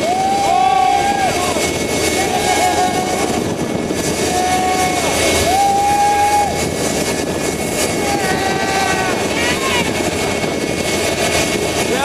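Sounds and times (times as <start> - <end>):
jet engine high whine: 0.0 - 12.0
jet engine rushing roar: 0.0 - 12.0.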